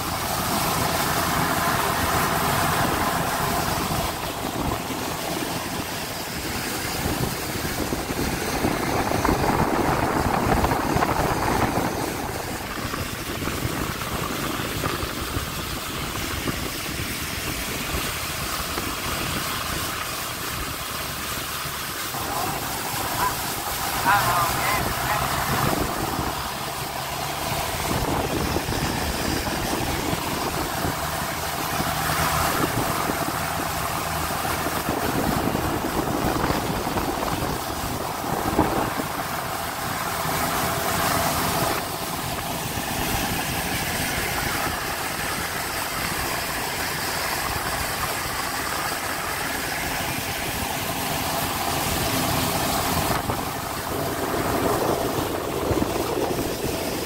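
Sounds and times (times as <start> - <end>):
motorboat engine running: 0.0 - 57.0
rushing hiss: 0.0 - 57.0.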